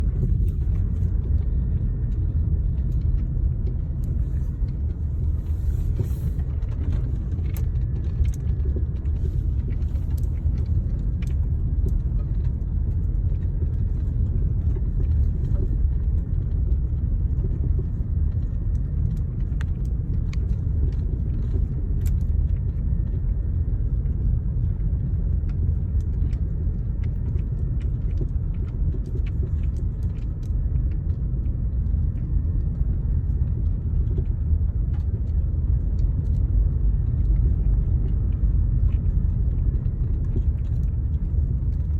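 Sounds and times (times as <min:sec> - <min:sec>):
road rumble: 0:00.0 - 0:41.9.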